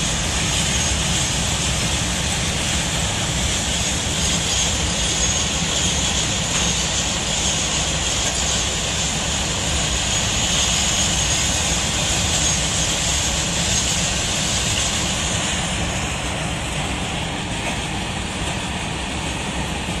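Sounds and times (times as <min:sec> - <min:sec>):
freight train rumbling past: 0:00.0 - 0:20.0
wheels hissing on rails: 0:00.0 - 0:20.0.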